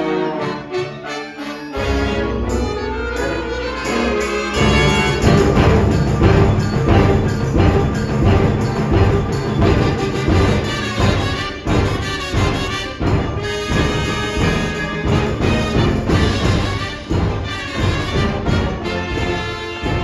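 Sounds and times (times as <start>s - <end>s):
wind band playing: 0.0s - 20.0s.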